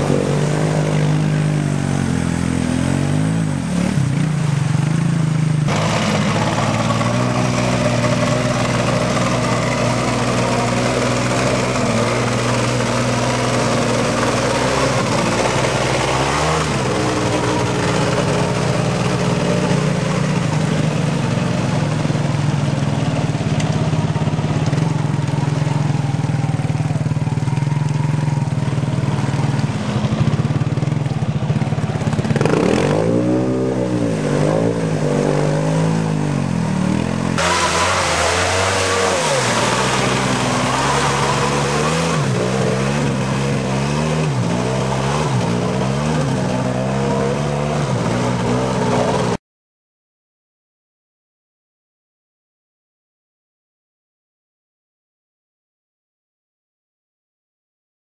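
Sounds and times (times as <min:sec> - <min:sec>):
atv engines revving: 0:00.0 - 0:49.4
water splashing around wheels: 0:00.0 - 0:49.4.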